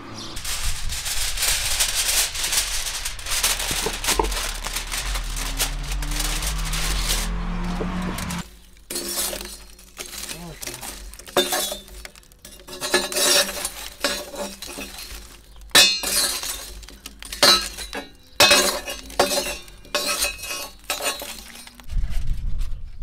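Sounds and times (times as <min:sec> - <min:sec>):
metal rake scraping oven floor: 0:00.1 - 0:21.9
coals clinking and knocking: 0:00.4 - 0:21.9.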